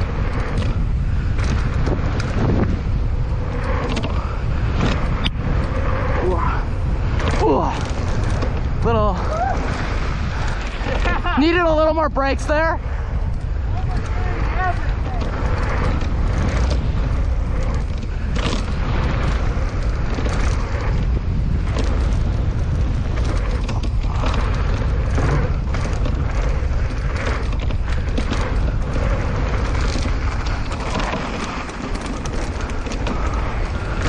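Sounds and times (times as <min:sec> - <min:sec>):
bike clattering over bumps: 0:00.0 - 0:34.0
wind rumble on microphone: 0:00.0 - 0:34.0.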